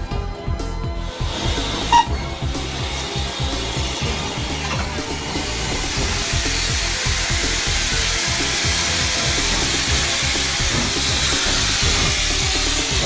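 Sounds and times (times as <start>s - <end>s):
steam hissing: 1.0s - 13.0s.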